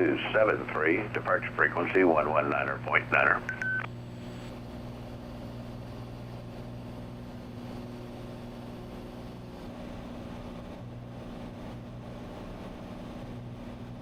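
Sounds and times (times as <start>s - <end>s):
propeller airplane engine droning: 0.0s - 14.0s.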